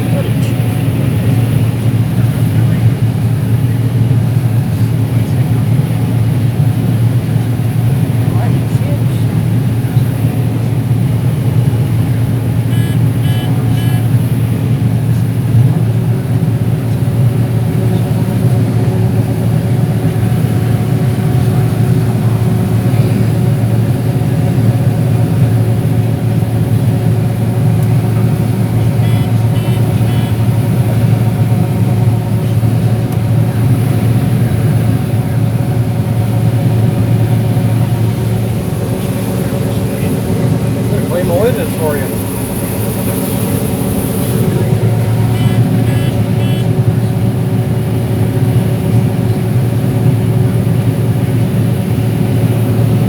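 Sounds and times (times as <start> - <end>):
combine harvester droning: 0.0 - 53.0.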